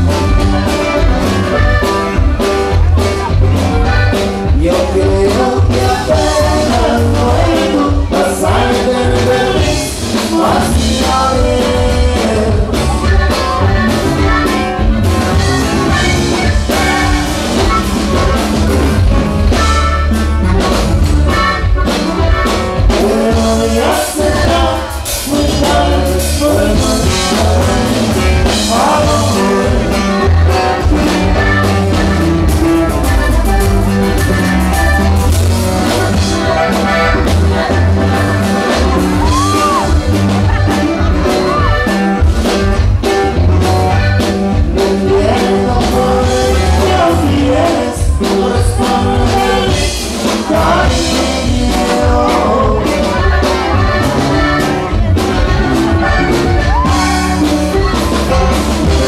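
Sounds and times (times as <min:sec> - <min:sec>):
accordion: 0:00.0 - 0:59.0
bajo sexto guitar: 0:00.0 - 0:59.0
bass: 0:00.0 - 0:59.0
drum kit: 0:00.0 - 0:59.0
man singing: 0:03.2 - 0:19.8, 0:22.4 - 0:33.0, 0:35.8 - 0:42.2, 0:43.5 - 0:59.0.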